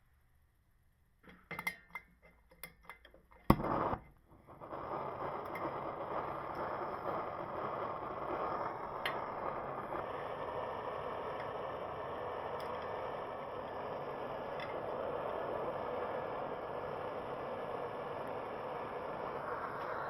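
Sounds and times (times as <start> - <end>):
welding arc hissing: 3.5 - 20.0.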